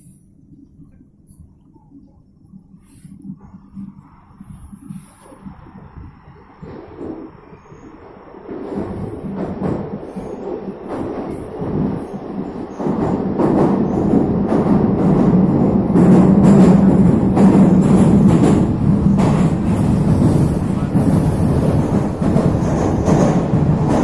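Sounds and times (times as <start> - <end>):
metro train rumbling in tunnel: 0.0 - 24.0.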